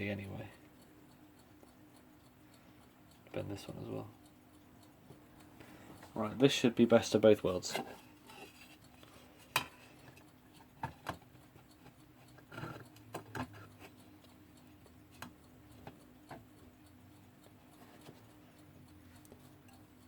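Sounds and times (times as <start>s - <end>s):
alarm clock clicks and taps: 0.0s - 20.0s
faint steady hum: 0.0s - 20.0s.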